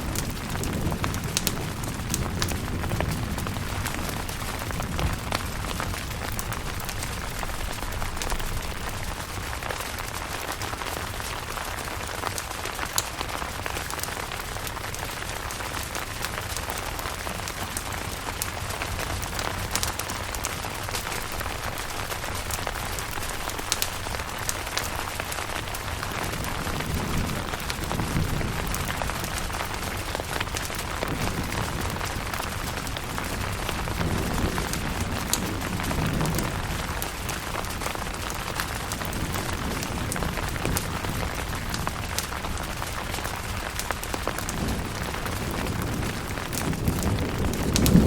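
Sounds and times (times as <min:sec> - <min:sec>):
rain on a tent: 0:00.0 - 0:48.0.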